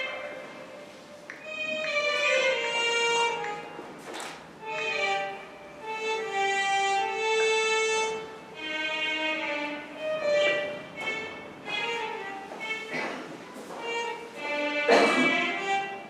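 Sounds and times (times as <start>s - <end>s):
violin slow melody: 0.0s - 16.0s.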